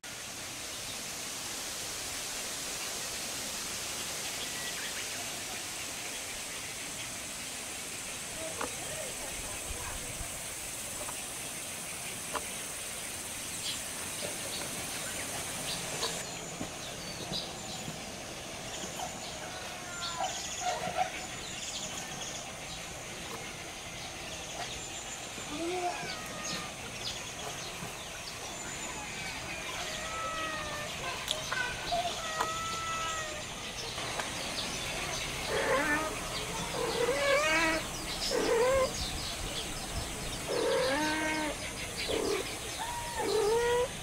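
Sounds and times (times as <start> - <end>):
high steady hiss: 0.0 - 44.0
outdoor background noise: 0.0 - 44.0
birds chirping: 4.1 - 44.0.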